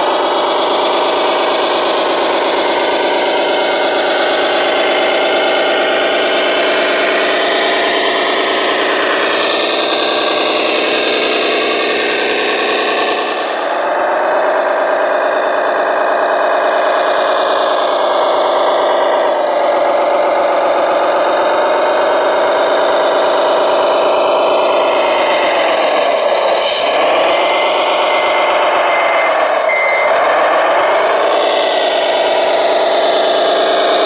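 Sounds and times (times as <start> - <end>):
remote-control model motor whine: 0.0 - 34.0.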